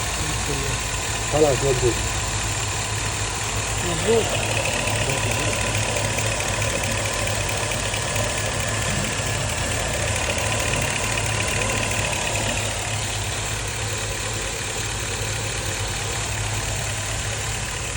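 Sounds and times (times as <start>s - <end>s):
engine idling: 0.0s - 17.9s.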